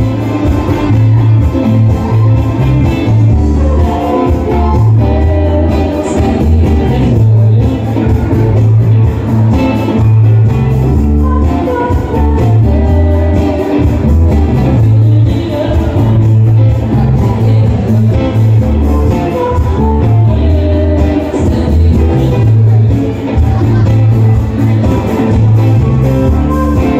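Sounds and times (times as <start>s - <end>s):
electric bass line: 0.0s - 26.9s
rock band playing: 0.0s - 26.9s
woman singing: 0.0s - 26.9s.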